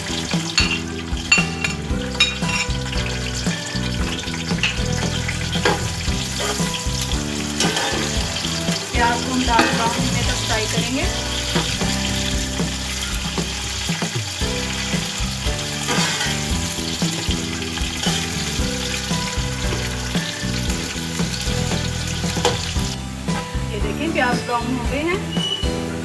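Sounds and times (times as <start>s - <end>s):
onions sizzling in oil: 0.0s - 23.5s.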